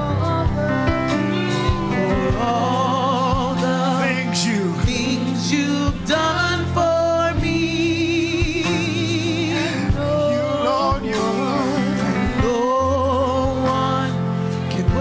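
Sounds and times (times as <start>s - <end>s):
keyboard chords: 0.0s - 15.0s
person singing with vibrato: 0.0s - 15.0s
steady drum beat: 0.0s - 15.0s.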